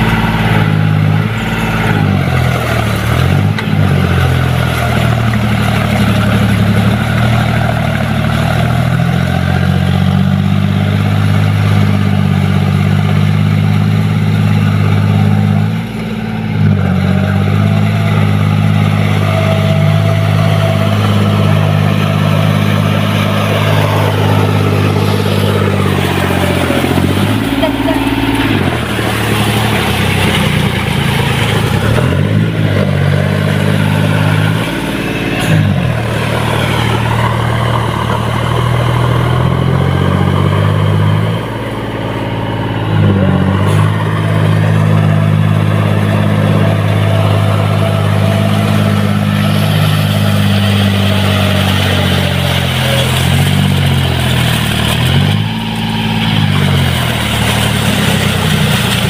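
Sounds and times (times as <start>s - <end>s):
tractor diesel engine running hard: 0.0s - 59.0s.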